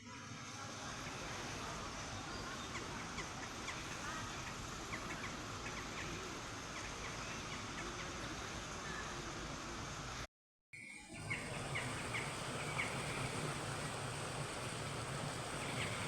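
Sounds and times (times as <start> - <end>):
outdoor background hiss: 0.0 - 16.0
birds chirping: 0.9 - 9.3, 10.8 - 16.0.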